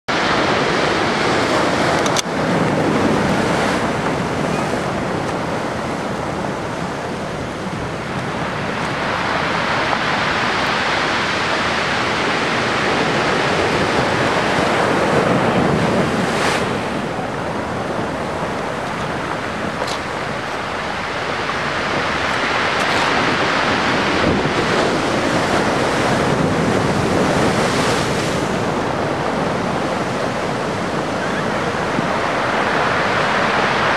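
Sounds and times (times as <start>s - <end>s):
ocean surf breaking: 0.1s - 33.9s
wind buffeting microphone: 0.1s - 33.9s.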